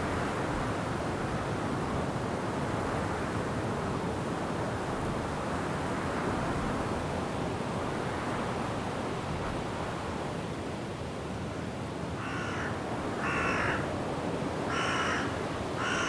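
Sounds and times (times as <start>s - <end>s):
wind blowing through trees: 0.0s - 16.0s.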